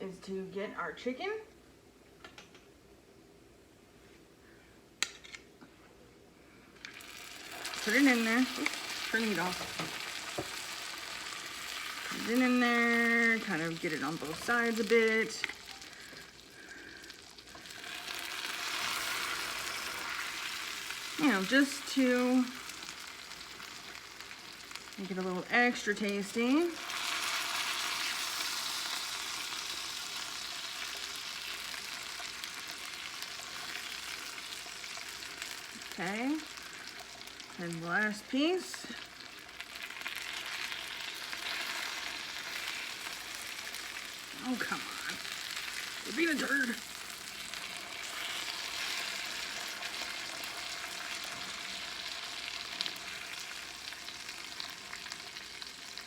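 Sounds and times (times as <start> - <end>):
chicken sizzling in a pan: 6.8 - 56.0.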